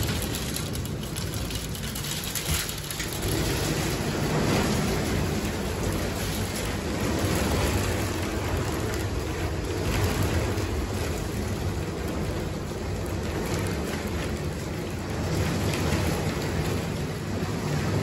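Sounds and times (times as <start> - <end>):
hail pelting roof panels: 0.0 - 18.0.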